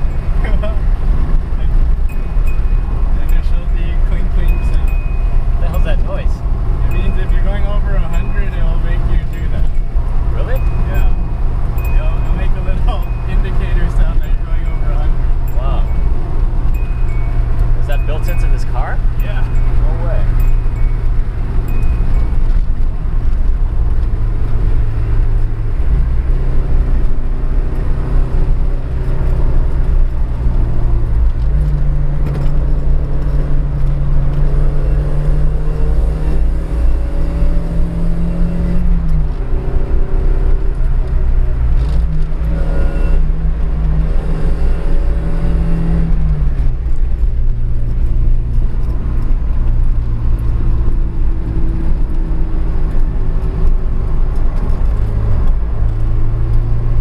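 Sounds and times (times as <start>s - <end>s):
car engine under load: 0.0s - 57.0s
road and tyre rumble: 0.0s - 57.0s.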